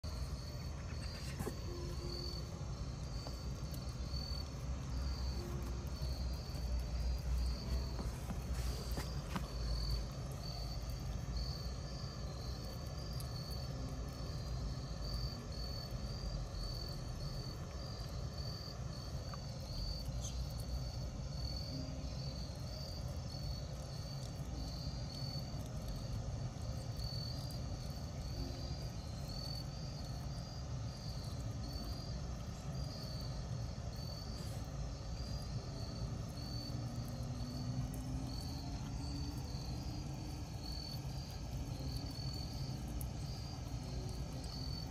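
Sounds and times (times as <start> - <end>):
cricket chirping: 0.0 - 44.9.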